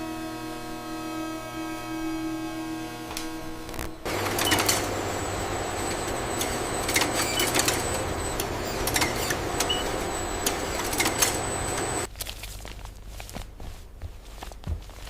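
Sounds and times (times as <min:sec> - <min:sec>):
industrial machinery humming: 0:00.0 - 0:12.1
thin high whine: 0:00.0 - 0:12.1.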